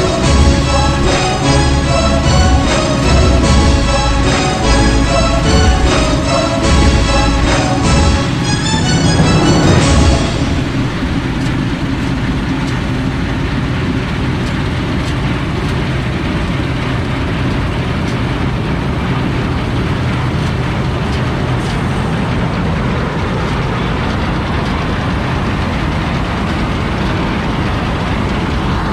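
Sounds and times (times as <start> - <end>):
combine harvester running: 0.0 - 28.9.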